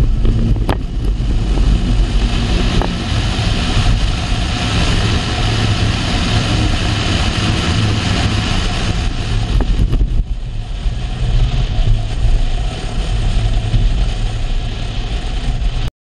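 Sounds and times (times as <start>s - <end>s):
car engine droning: 0.0s - 15.9s
wind noise through sunroof: 0.0s - 15.9s.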